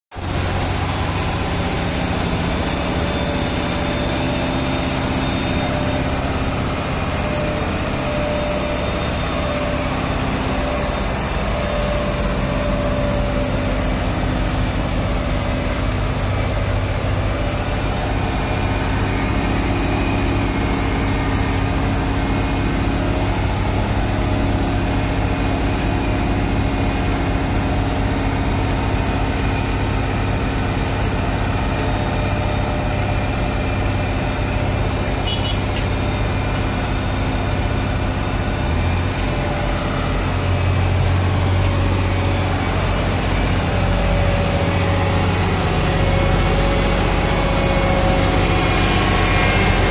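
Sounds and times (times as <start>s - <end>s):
diesel truck engine idling: 0.2s - 49.9s.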